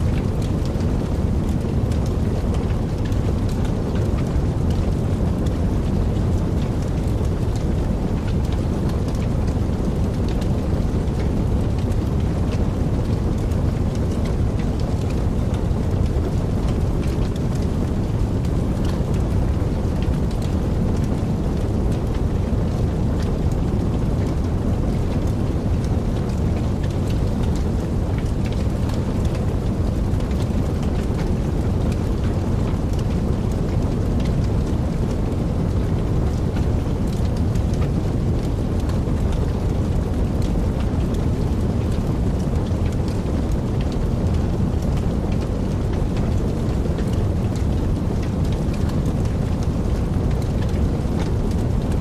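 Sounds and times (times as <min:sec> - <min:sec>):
fire crackling and rumbling: 0:00.0 - 0:52.0.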